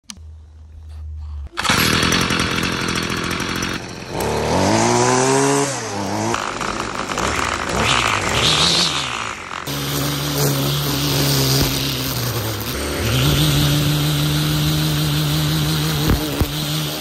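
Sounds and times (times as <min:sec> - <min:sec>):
string trimmer engine revving: 0:01.6 - 0:17.0.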